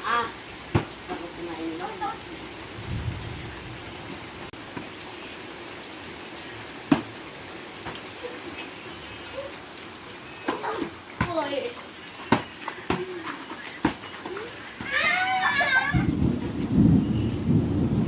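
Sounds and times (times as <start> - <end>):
steady rain hissing: 0.0 - 18.0.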